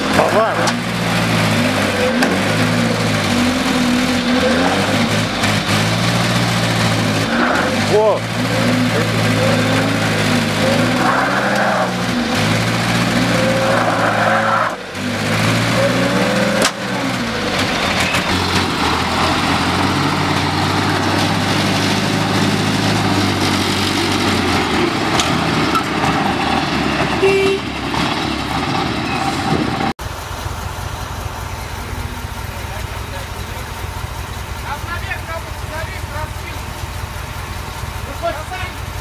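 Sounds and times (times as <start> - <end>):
truck and car engines revving: 0.0 - 39.0.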